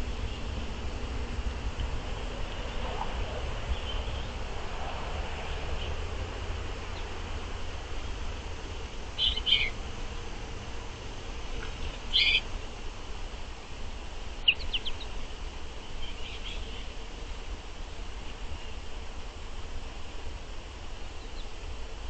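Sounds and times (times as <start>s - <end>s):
songbirds chirping: 0.0s - 4.6s, 5.4s - 22.0s
steady low hum: 0.0s - 22.0s.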